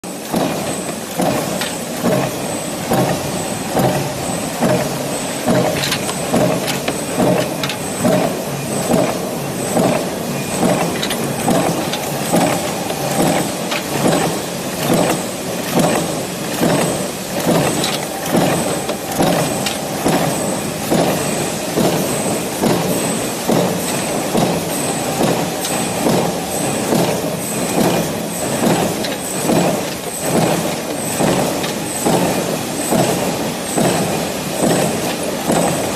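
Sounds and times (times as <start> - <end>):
continuous machine din: 0.0 - 35.9
power presses stamping metal: 0.1 - 35.9.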